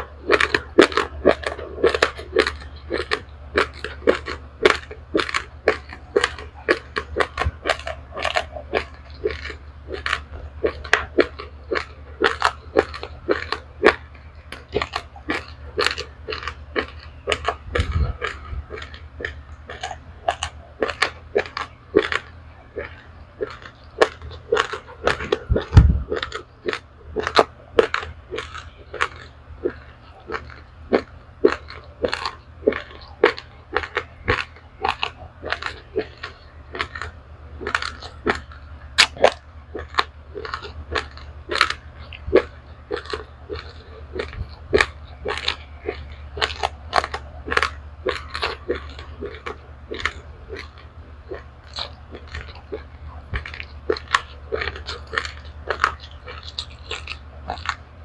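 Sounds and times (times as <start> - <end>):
crunching dry rice grains: 0.0 - 58.0
faint low hum: 0.0 - 58.0.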